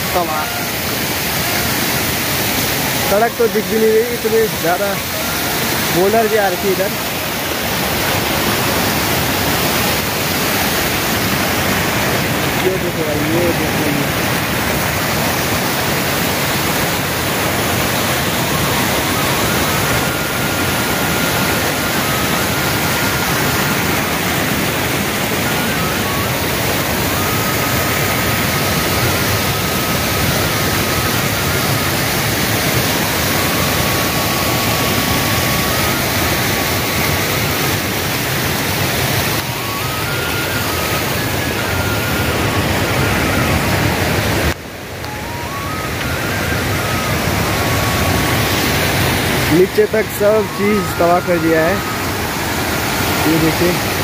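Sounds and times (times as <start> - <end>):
flooded stream rushing over boulders: 0.0 - 54.0.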